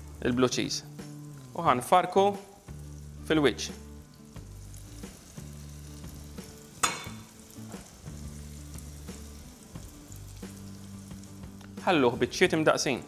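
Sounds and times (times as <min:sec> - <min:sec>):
eggs sizzling in a pan: 0:00.0 - 0:13.0
soft music of low held notes: 0:00.0 - 0:13.0.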